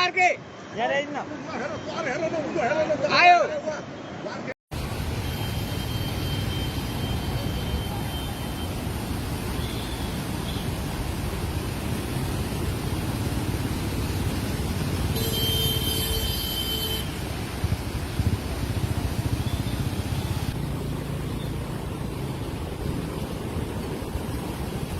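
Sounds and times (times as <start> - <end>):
flooded river roaring: 4.8 - 24.9.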